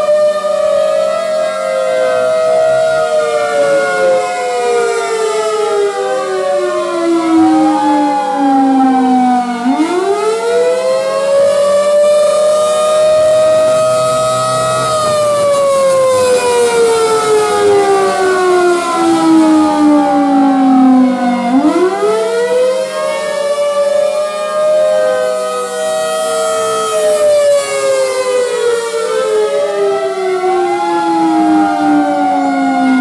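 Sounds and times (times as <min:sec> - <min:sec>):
warning sirens wailing: 0:00.0 - 0:33.0.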